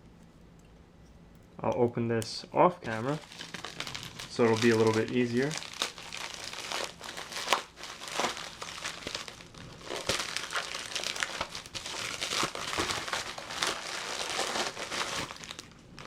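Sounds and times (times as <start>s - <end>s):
packaging crinkling and rustling: 2.8s - 16.0s.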